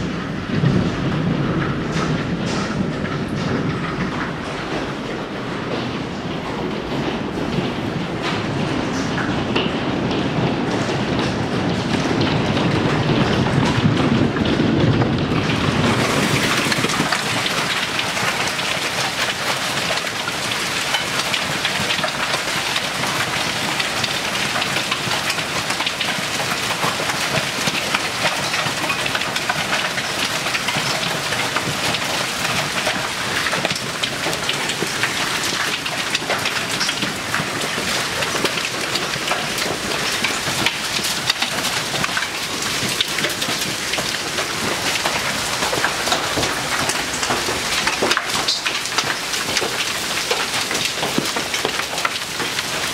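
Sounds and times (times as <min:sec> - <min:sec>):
heavy hail clattering: 0:00.0 - 0:52.9.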